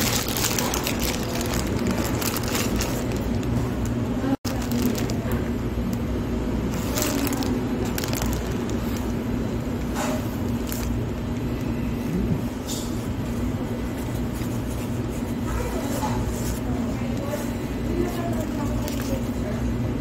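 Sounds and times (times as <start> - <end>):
paper wrapper crinkling: 0.0 - 11.7, 13.2 - 19.6
steady low background hum: 0.0 - 20.0.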